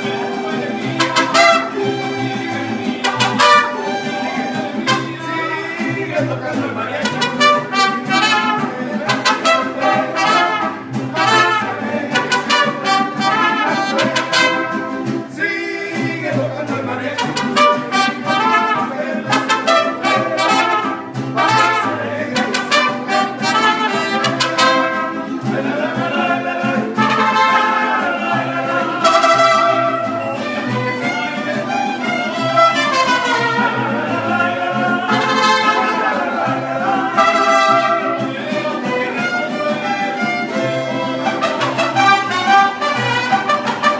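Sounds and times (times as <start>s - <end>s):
mariachi band playing: 0.0s - 43.9s
trumpets: 0.9s - 2.0s, 2.8s - 5.6s, 7.0s - 15.2s, 17.0s - 25.9s, 26.9s - 43.9s.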